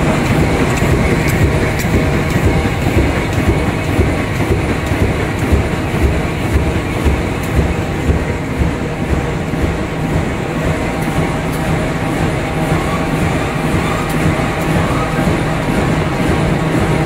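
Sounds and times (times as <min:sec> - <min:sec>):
printing machine running: 0:00.0 - 0:17.0.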